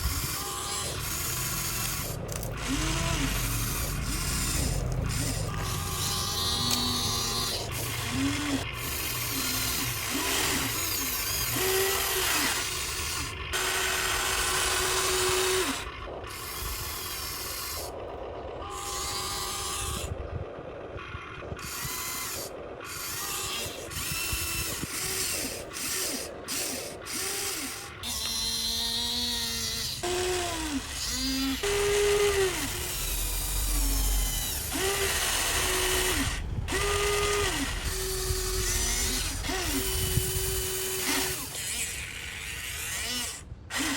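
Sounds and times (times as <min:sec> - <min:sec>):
electric gear motors whirring: 0:00.0 - 0:43.9.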